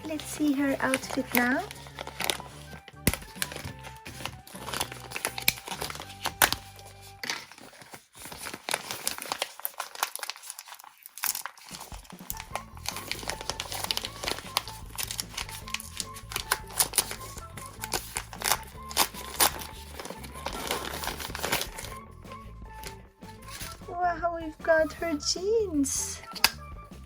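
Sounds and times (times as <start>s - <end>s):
background music: 0.0s - 7.6s, 11.8s - 27.0s
packaging crinkling and tearing: 0.0s - 22.0s.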